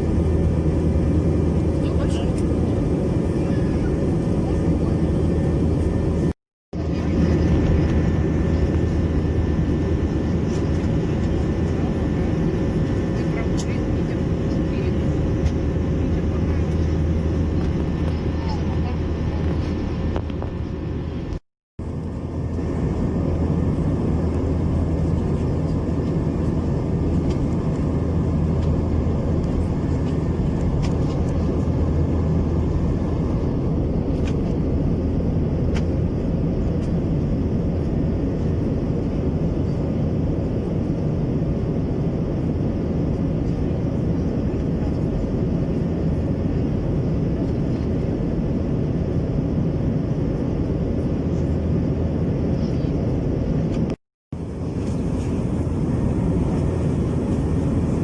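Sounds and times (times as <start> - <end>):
air rushing in cabin: 0.0 - 58.0
jet engines roaring: 0.0 - 58.0.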